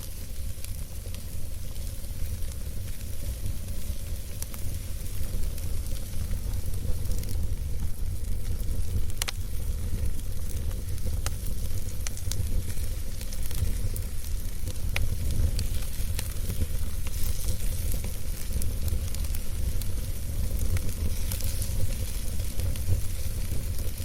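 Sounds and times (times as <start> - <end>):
burning wood crackling: 0.0 - 24.0
campfire flames rumbling: 0.0 - 24.0.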